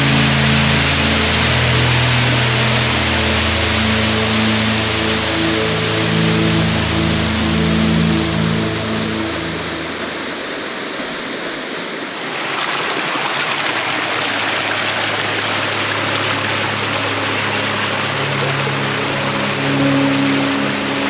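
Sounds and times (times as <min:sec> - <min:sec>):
faint music: 0:00.0 - 0:11.6, 0:14.5 - 0:21.0
rushing water: 0:00.0 - 0:21.0.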